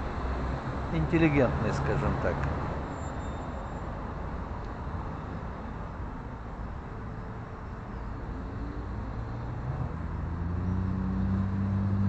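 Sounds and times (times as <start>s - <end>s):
road noise rumble: 0.0s - 12.0s
vehicle engine low hum: 0.0s - 12.0s.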